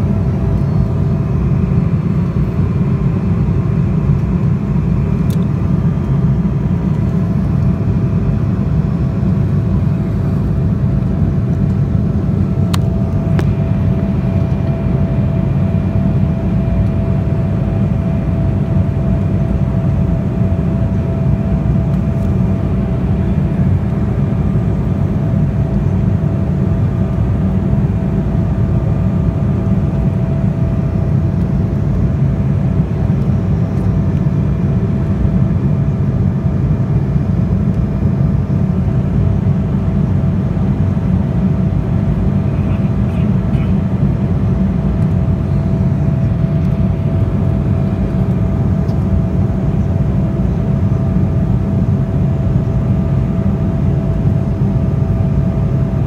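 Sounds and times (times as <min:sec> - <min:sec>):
airliner cabin roar: 0:00.0 - 0:56.0.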